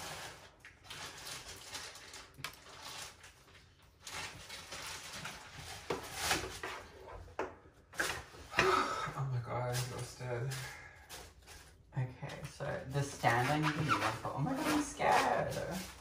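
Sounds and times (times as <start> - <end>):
rustling: 0.0 - 7.3, 9.6 - 16.0.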